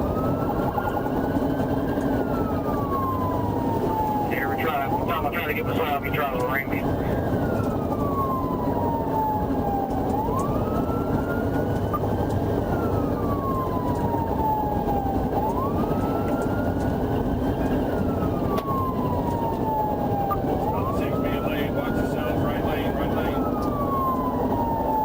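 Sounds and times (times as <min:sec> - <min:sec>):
police siren wailing: 0:00.0 - 0:25.0
road and engine rumble: 0:00.0 - 0:25.0.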